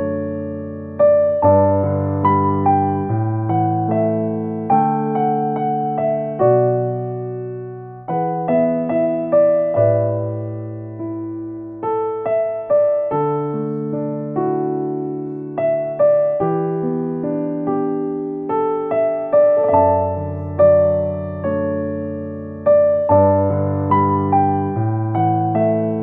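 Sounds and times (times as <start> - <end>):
solo piano melody: 0.0 - 26.0.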